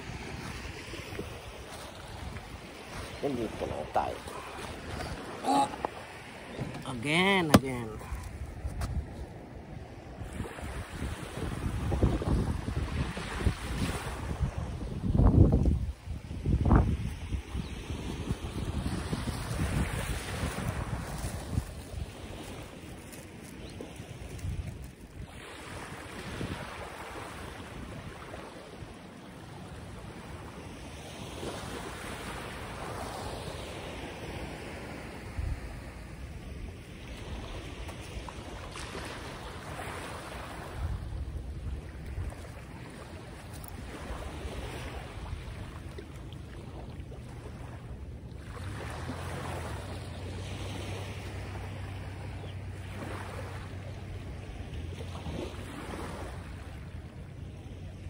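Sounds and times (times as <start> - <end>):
waves washing in: 0.0 - 58.0
wind on microphone: 0.0 - 58.0.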